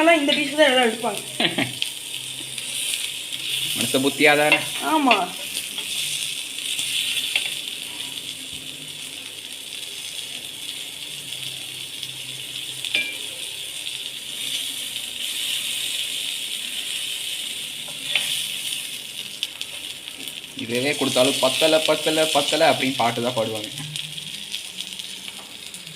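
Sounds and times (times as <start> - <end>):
chicken sizzling in oil: 0.0 - 25.9.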